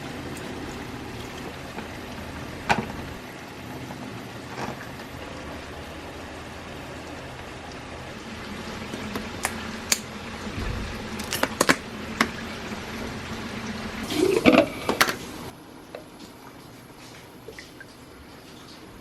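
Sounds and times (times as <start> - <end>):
rising tone of container filling: 0.0 - 15.5
water running: 0.0 - 19.0.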